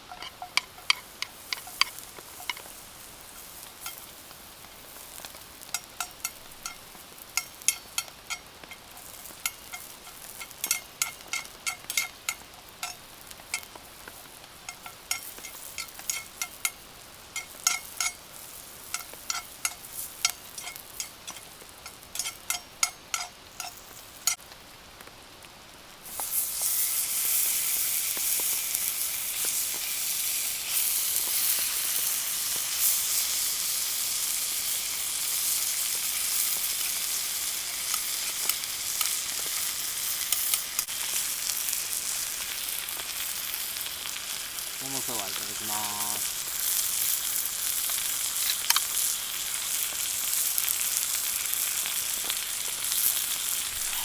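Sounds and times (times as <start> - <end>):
hot oil spitting and popping: 0.0 - 25.1, 26.0 - 54.0
food sizzling in a pan: 0.0 - 54.0.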